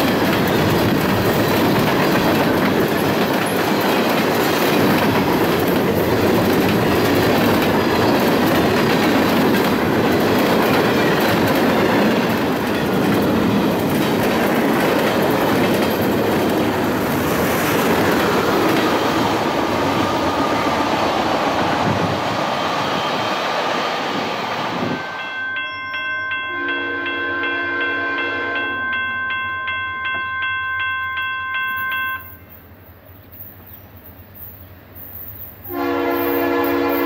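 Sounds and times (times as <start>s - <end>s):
freight train wheels on rails: 0.0s - 37.0s.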